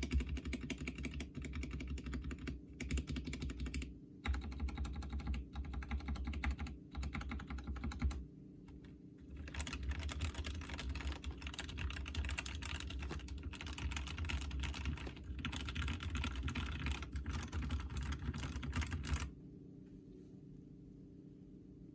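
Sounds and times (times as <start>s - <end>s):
fast typing on mechanical keyboard: 0.0s - 8.2s, 9.3s - 19.3s.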